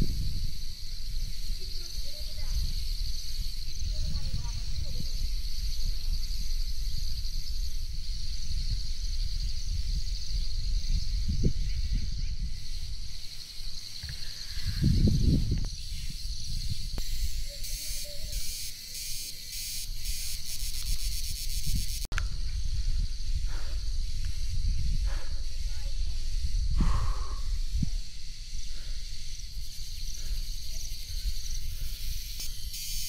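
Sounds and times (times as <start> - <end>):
wind buffeting microphone: 0.0 - 18.4, 20.7 - 32.8
insect buzzing trill: 0.0 - 22.1, 24.0 - 33.0
high chorus of insects: 0.0 - 33.0.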